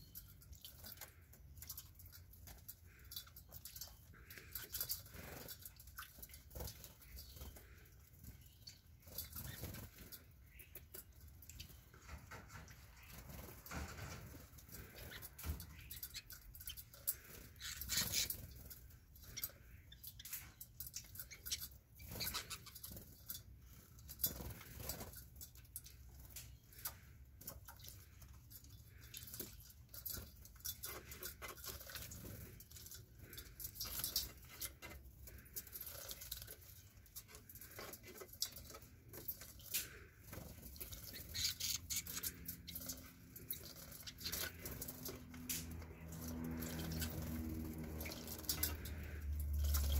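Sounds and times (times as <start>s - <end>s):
birds splashing in water bowl: 0.0s - 49.9s.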